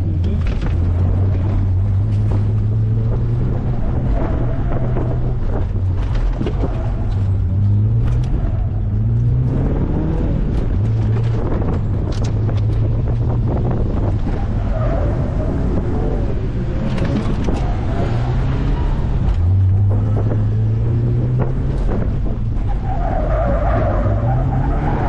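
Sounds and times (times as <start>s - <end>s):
car engine revving: 0.0s - 25.0s
wind noise: 0.0s - 25.0s.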